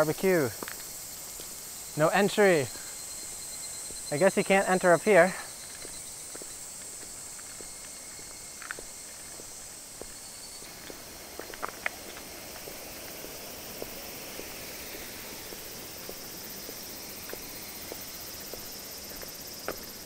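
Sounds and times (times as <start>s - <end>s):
high-pitched insect drone: 0.0s - 20.0s
footsteps walking: 0.6s - 1.6s, 3.2s - 4.1s, 5.3s - 20.0s.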